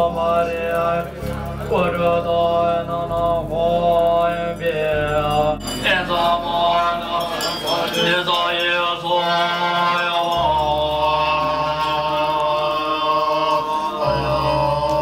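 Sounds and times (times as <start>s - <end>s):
deep low drone: 0.0s - 7.5s, 10.3s - 15.0s
voices chanting: 0.0s - 15.0s.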